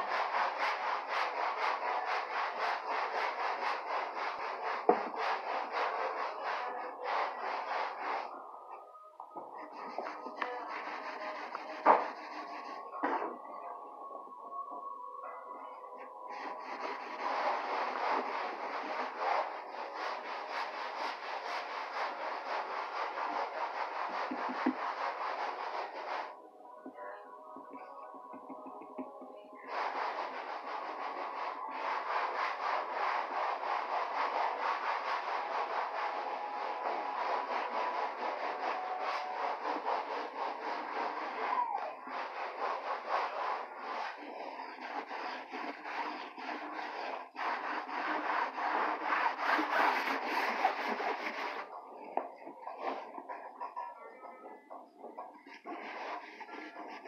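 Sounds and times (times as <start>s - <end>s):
sandpaper rubbing on wood: 0.0s - 8.4s, 9.4s - 13.2s, 16.3s - 26.4s, 27.7s - 57.0s.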